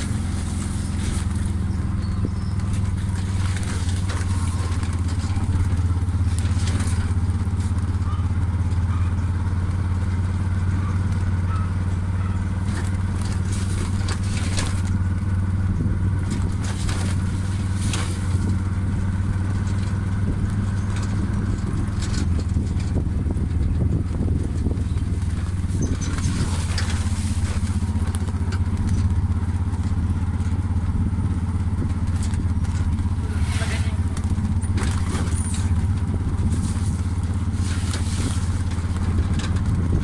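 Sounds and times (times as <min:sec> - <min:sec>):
knocks and rattles: 0:00.0 - 0:08.0, 0:11.0 - 0:40.0
vehicle engine humming: 0:00.0 - 0:40.0.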